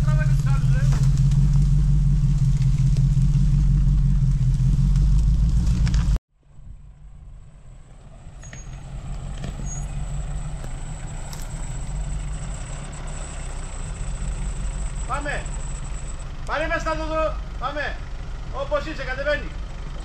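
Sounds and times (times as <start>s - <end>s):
engine low rumble: 0.0s - 20.0s
quiet engine sound: 0.0s - 20.0s.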